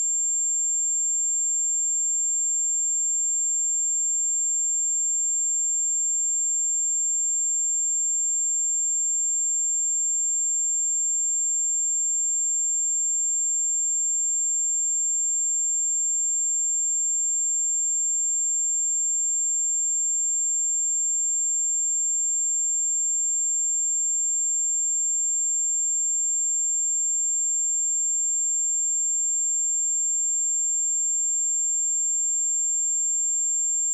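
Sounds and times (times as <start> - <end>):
high-pitched sine test tone: 0.0 - 33.9.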